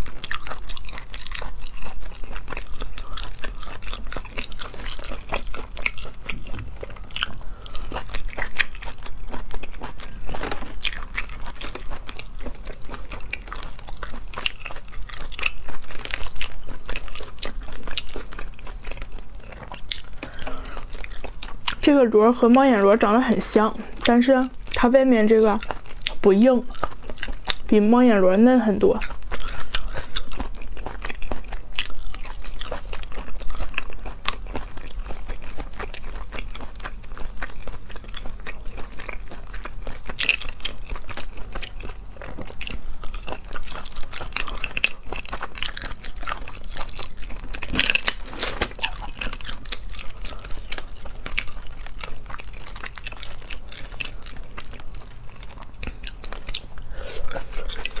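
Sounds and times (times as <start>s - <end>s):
chewing and mouth noises: 0.0s - 58.0s.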